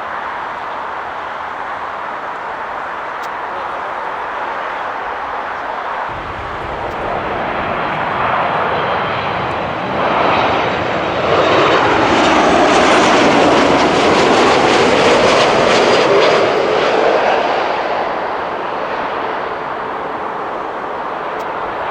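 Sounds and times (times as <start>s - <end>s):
jet airliner engine passing: 0.1s - 21.9s.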